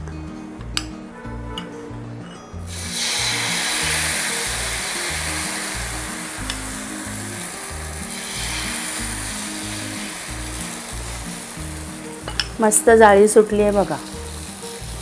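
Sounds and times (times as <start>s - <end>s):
batter sizzling on hot pan: 2.7s - 15.0s.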